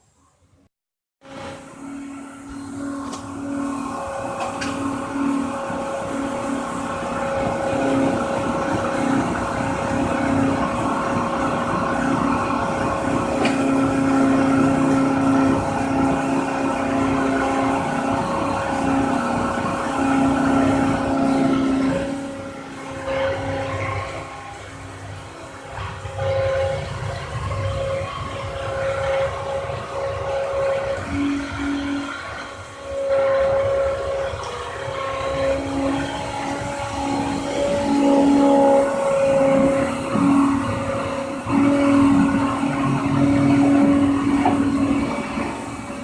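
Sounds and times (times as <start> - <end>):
machine motors whining: 1.2 - 46.0.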